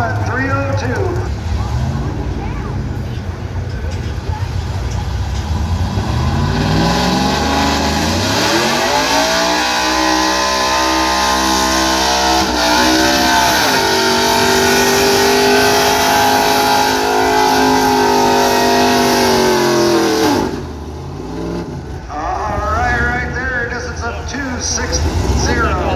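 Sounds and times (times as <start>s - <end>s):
pickup truck engine revving: 0.0s - 25.9s.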